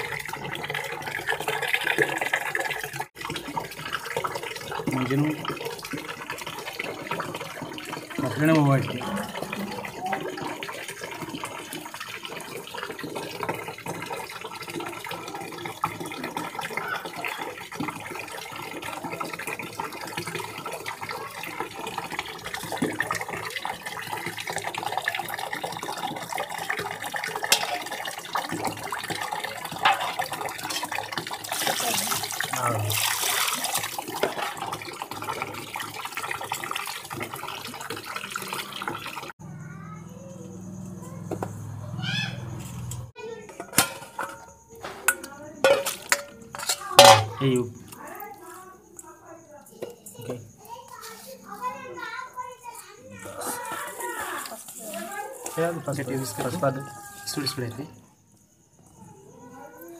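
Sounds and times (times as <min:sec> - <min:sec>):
water splashing in steel bowls: 0:00.0 - 0:39.4, 0:40.9 - 0:58.0.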